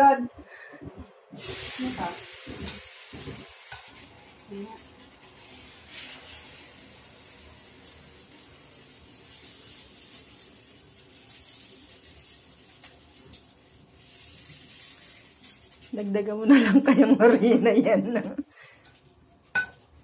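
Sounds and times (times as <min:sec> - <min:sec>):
batter sizzling in a frying pan: 0:01.4 - 0:20.0.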